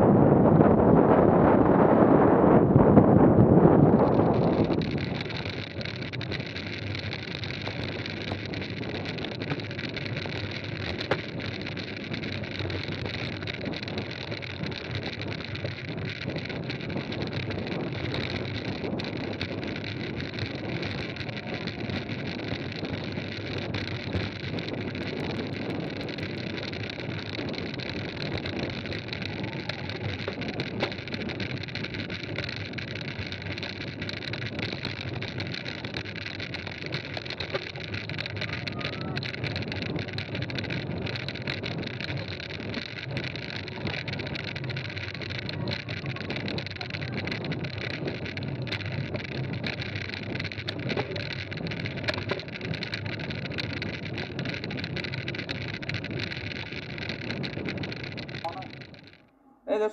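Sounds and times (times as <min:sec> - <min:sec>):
wind on microphone: 0:00.0 - 0:58.9
bike tyres on gravel: 0:00.1 - 0:59.3
small clicks: 0:03.9 - 0:59.4.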